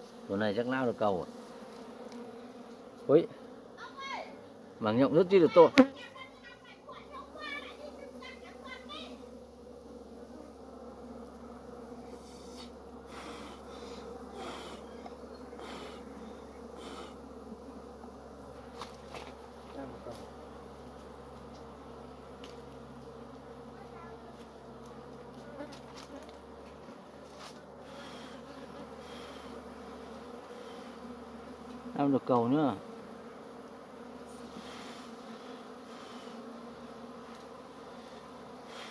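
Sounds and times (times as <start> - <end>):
honey bees buzzing: 0.0 - 38.9.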